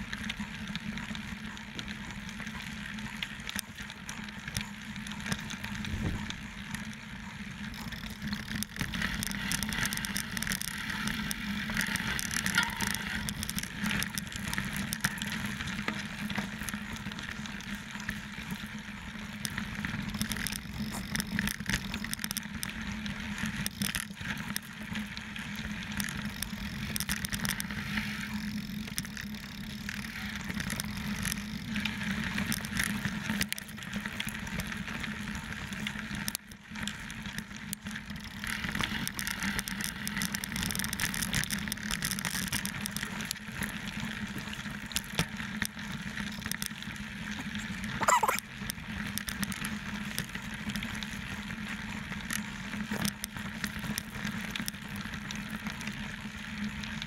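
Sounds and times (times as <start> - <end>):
bike rattling over bumps: 0.0 - 57.0.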